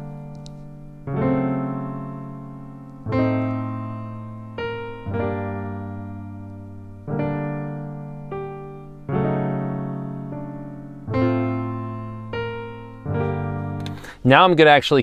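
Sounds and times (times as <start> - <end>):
light piano notes: 0.0 - 14.8
piano chords: 0.0 - 14.8.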